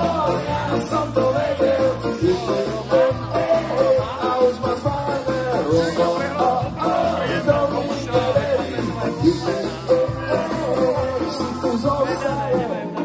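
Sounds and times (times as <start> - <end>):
person singing: 0.0 - 13.0
ska band playing live: 0.0 - 13.0.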